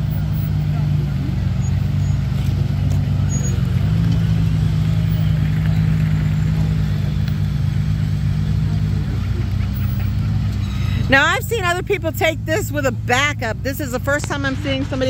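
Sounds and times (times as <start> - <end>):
buggy engine running: 0.0 - 15.0.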